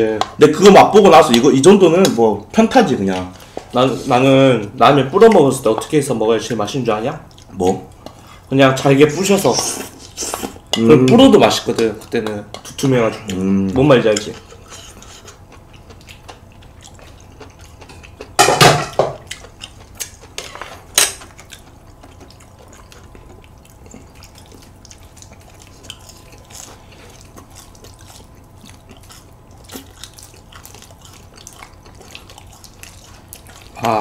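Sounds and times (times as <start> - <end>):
chopsticks mixing sticky noodles: 0.0 - 18.4, 19.3 - 34.0.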